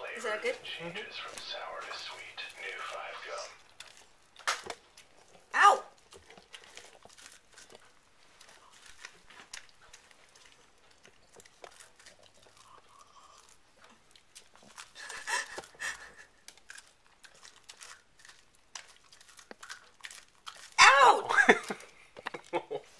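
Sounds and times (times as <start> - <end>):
dog gnawing corn cob: 0.0 - 22.9.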